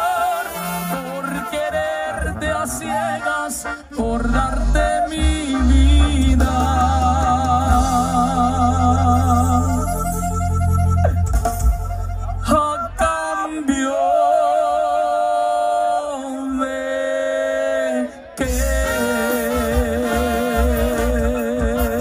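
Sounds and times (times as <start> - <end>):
person singing: 0.0 - 11.3, 12.3 - 22.0
regional band music: 0.0 - 14.2, 18.4 - 22.0.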